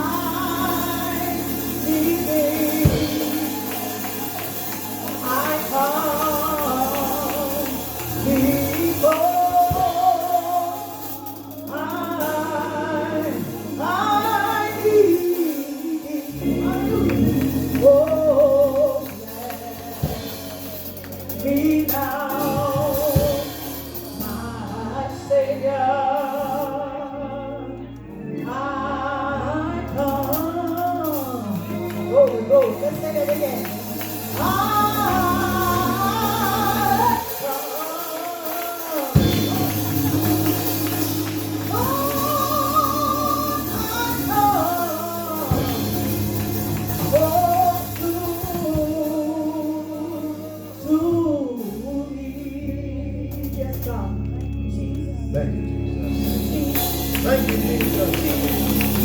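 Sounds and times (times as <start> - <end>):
low instrumental accompaniment: 0.0 - 59.0
solo voice singing gospel: 0.0 - 59.0.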